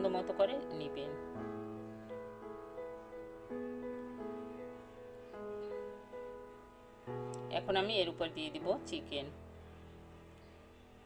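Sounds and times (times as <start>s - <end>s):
soft piano-like background music: 0.0s - 11.0s.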